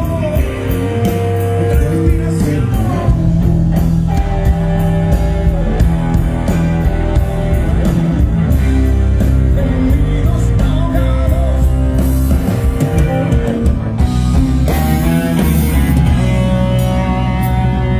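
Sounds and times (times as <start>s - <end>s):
drum kit: 0.0s - 17.9s
electric bass: 0.0s - 17.9s
electric guitar: 0.0s - 17.9s.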